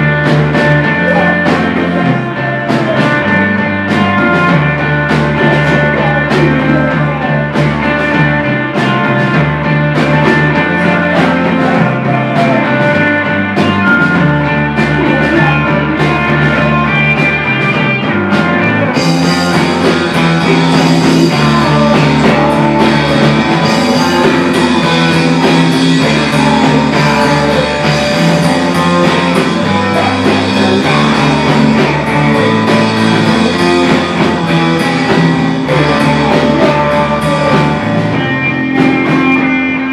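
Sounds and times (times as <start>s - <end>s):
live rock band instrumental: 0.0s - 39.9s.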